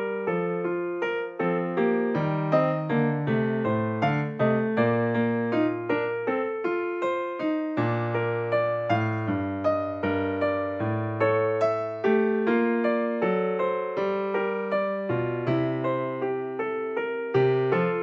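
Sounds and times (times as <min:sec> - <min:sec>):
piano tune: 0:00.0 - 0:18.0.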